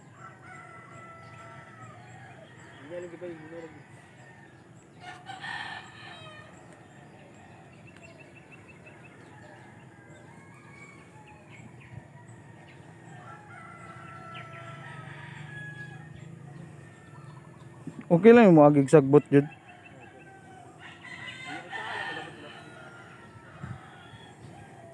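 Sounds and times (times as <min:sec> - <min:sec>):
rooster crowing: 0:00.0 - 0:08.2, 0:08.8 - 0:17.8, 0:18.7 - 0:24.9.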